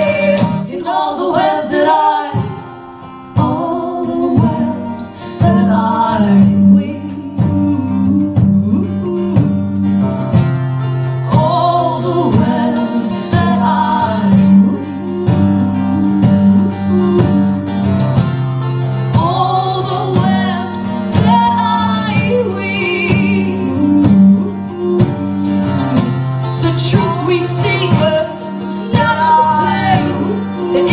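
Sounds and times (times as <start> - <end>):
women singing: 0.0 - 9.2, 11.3 - 17.4, 19.1 - 25.2, 26.0 - 30.9
strummed guitar: 0.0 - 30.9.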